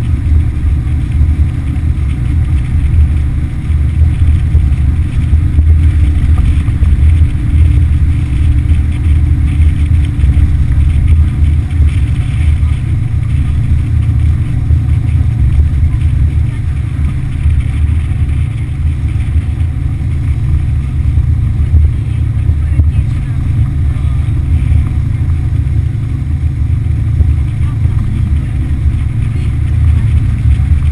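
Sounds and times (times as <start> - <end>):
outboard motorboat rumbling: 0.0 - 30.9.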